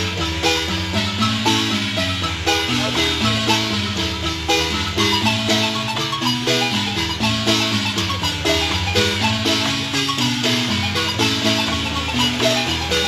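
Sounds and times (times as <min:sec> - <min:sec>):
marimba played with mallets: 0:00.0 - 0:13.0.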